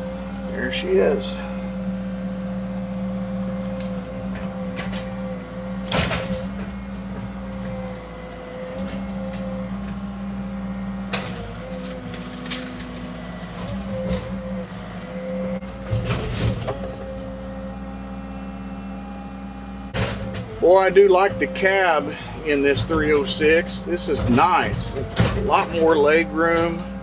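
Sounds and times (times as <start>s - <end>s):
excavator diesel engine running: 0.0s - 27.0s
hydraulic whine: 0.0s - 27.0s.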